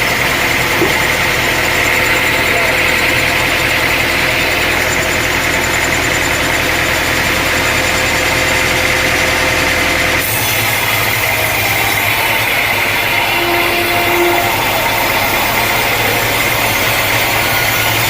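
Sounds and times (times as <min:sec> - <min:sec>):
sawmill engine running: 0:00.0 - 0:18.0.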